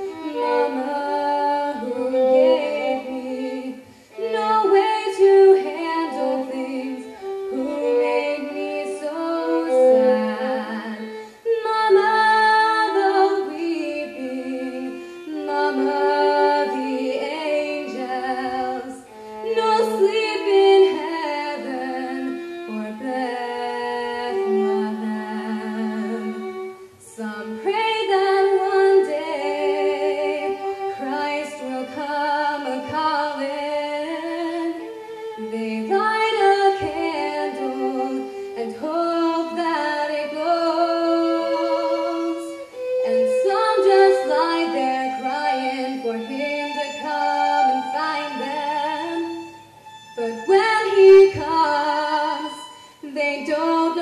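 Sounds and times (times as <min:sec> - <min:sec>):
woman singing into microphone: 0:00.0 - 0:49.4, 0:50.2 - 0:54.0.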